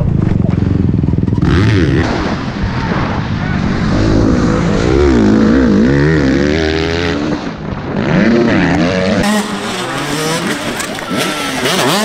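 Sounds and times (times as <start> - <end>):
motocross bike engine revving: 0.3 - 2.3, 3.6 - 12.0.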